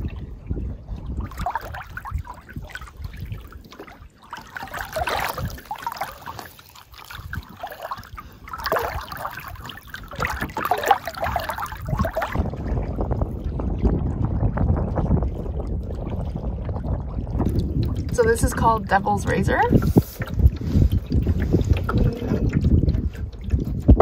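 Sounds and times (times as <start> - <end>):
canoe paddle strokes in water: 0.0 - 24.0
water gurgling along hull: 0.0 - 24.0.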